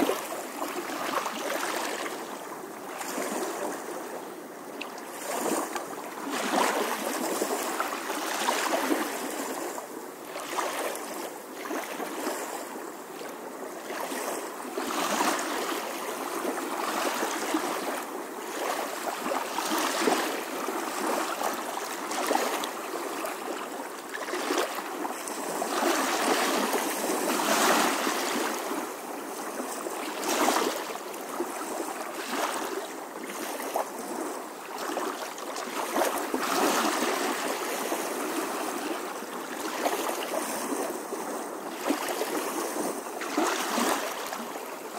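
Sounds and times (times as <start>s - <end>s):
pool water splashing: 0.0s - 44.9s.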